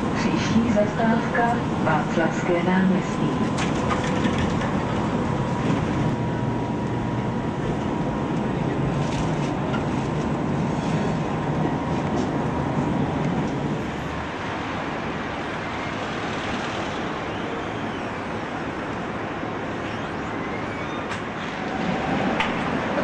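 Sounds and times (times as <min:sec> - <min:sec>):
street traffic: 0:00.0 - 0:23.0
tram rumbling: 0:00.0 - 0:23.0.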